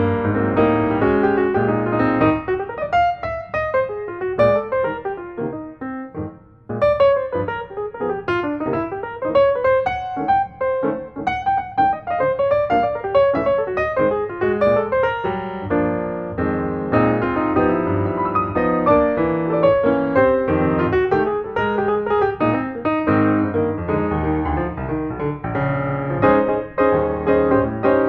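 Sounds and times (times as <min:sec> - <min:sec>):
piano playing notes and chords: 0:00.0 - 0:28.0.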